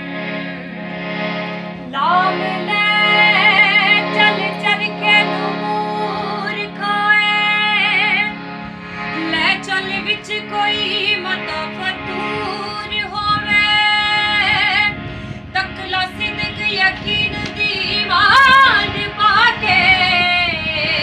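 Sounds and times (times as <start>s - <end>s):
harmonium playing folk melody: 0.0s - 21.0s
woman singing: 1.8s - 8.4s, 9.2s - 15.0s, 15.6s - 21.0s.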